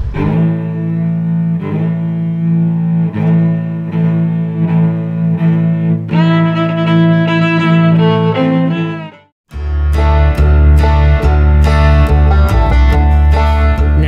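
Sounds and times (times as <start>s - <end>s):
higher string notes: 0.0s - 14.0s
low bowed string notes: 0.0s - 14.0s.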